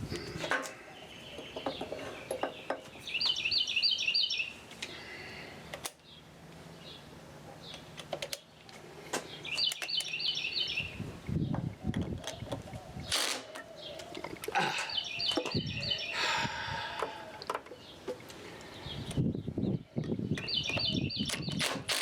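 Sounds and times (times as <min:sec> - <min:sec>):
bird chirping: 0:00.2 - 0:05.2, 0:06.0 - 0:21.8.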